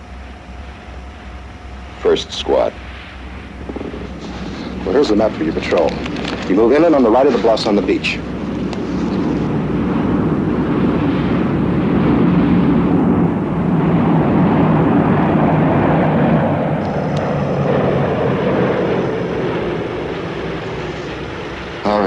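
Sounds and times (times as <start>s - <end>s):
heavy engines droning: 0.0s - 22.0s.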